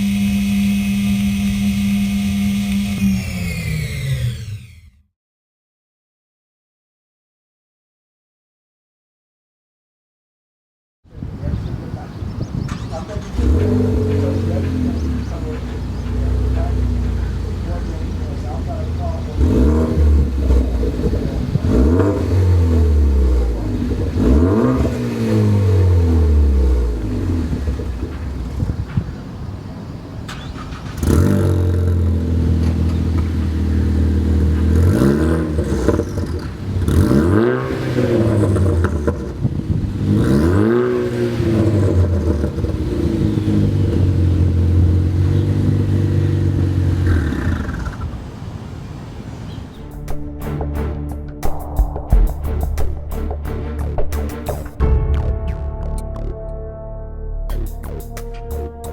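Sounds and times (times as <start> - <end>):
car engine revving: 0.0 - 4.9, 11.4 - 29.5, 30.2 - 48.3, 51.4 - 58.9.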